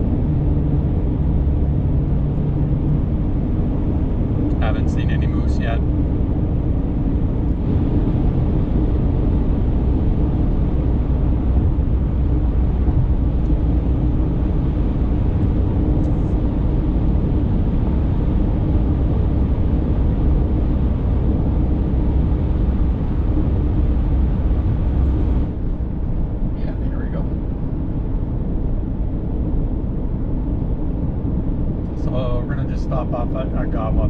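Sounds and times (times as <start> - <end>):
car cabin road and engine noise: 0.0 - 34.0.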